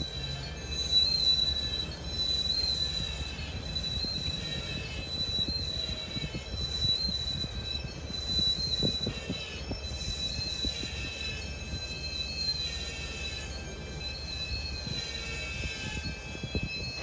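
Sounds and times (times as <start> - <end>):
freight cars rumbling: 0.0 - 17.0
train wheels squealing: 0.0 - 17.0.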